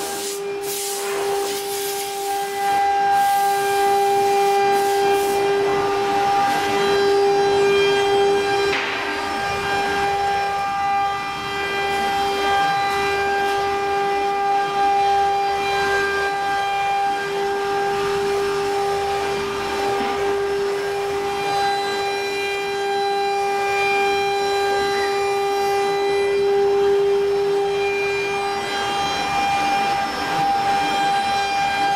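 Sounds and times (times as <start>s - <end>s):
wood router high-pitched whine: 0.0s - 31.9s.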